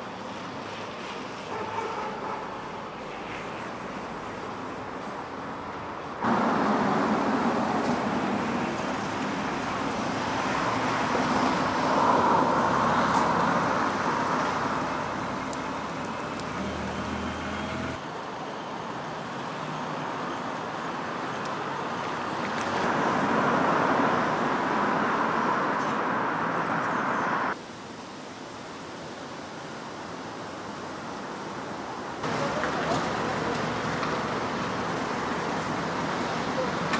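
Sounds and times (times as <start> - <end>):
cars passing: 0.0 - 27.6, 32.2 - 36.9
street background hum: 0.0 - 28.3, 29.9 - 36.9.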